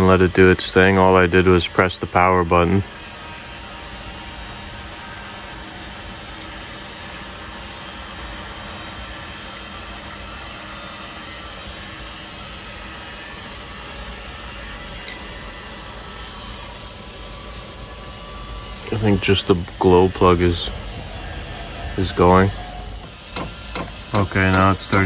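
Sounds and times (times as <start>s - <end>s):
heater blower fan running: 0.0s - 25.0s.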